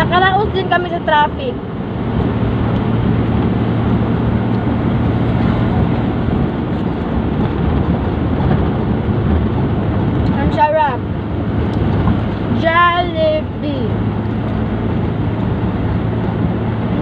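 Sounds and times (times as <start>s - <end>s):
engine hum inside car: 0.0s - 17.0s
road and wind noise: 0.0s - 17.0s.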